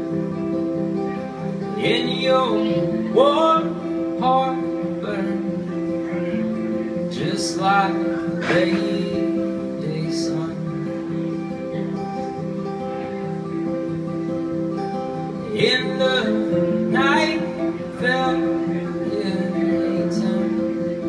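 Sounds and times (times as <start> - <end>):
strummed acoustic guitars: 0.0 - 21.0.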